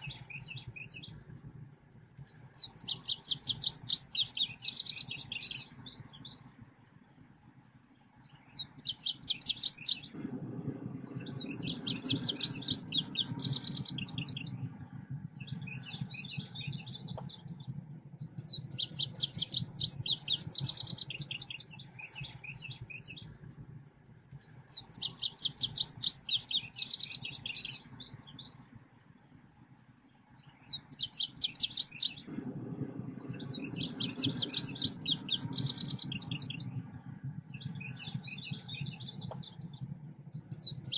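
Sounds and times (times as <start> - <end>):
recorded bird chirping: 0.0 - 40.9.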